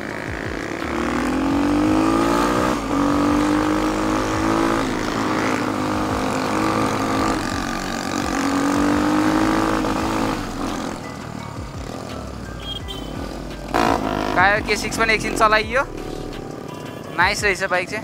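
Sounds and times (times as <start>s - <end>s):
motorcycle engine accelerating: 0.0s - 17.8s.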